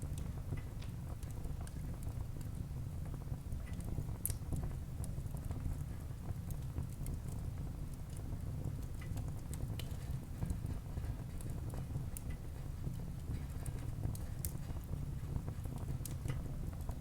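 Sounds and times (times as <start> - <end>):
low rumble of flames: 0.0 - 17.0.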